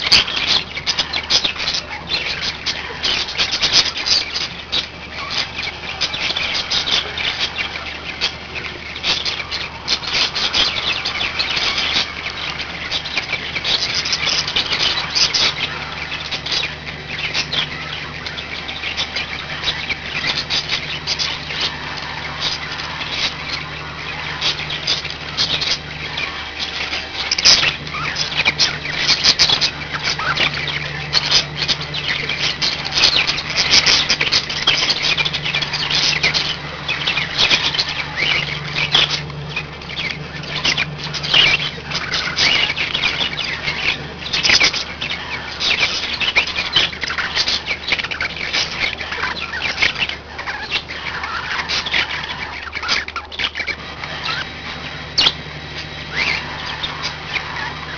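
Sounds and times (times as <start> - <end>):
budgerigars chattering: 0.0 - 57.9
low steady hum: 0.0 - 57.9.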